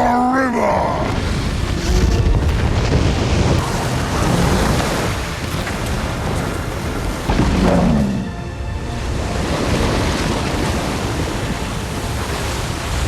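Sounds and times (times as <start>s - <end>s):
water rushing and crashing: 0.0s - 13.0s.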